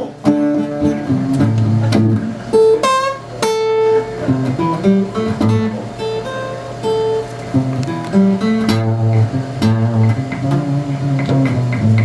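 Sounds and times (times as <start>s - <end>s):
acoustic guitar plucked notes: 0.0s - 12.0s
acoustic guitar strummed chords: 0.0s - 12.0s.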